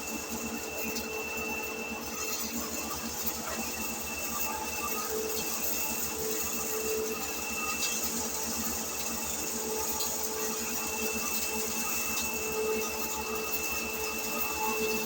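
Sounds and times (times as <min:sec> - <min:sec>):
electric grinding mill running: 0:00.0 - 0:15.0.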